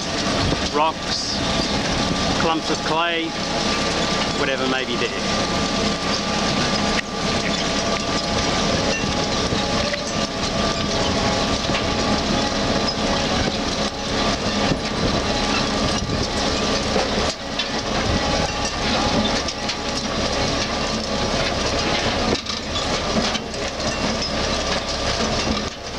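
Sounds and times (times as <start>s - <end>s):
harvester conveyors rattling: 0.0s - 25.9s
tractor engine running: 0.0s - 25.9s.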